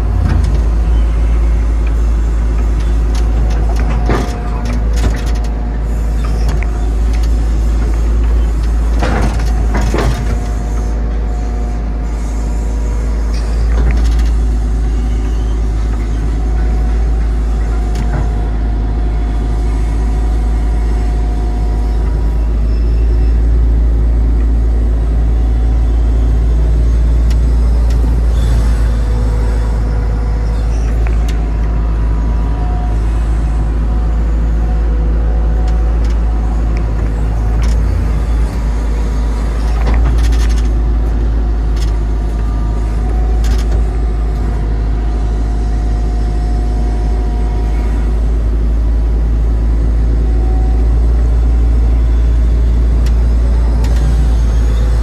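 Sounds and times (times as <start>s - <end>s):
excavator diesel engine drone: 0.0s - 55.0s
hydraulic whining: 0.0s - 55.0s.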